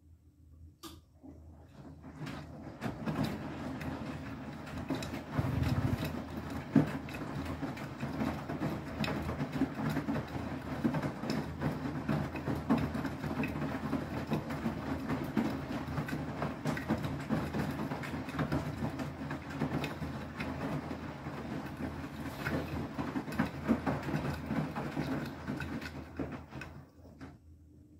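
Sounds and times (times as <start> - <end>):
washing machine drum motor humming: 0.8 - 27.8
wet laundry tumbling: 1.4 - 27.5.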